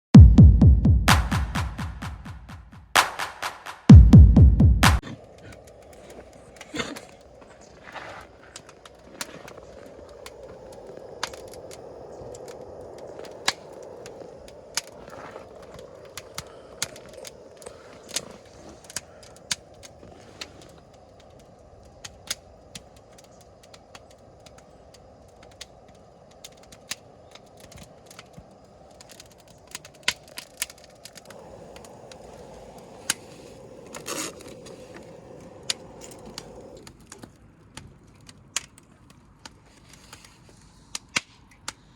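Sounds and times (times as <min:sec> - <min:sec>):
low hiss of burning: 0:05.0 - 0:41.9
wood fire crackling and popping: 0:05.0 - 0:41.9.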